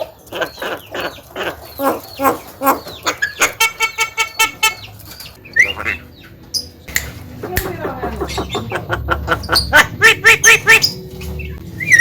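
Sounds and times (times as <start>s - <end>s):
myna bird calling: 0.0s - 12.0s.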